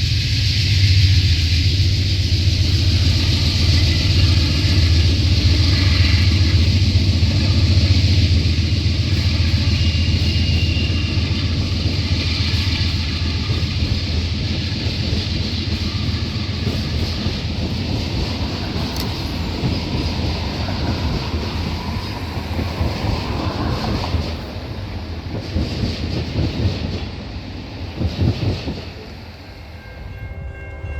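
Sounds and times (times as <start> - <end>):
train cars rumbling on rails: 0.0 - 30.9.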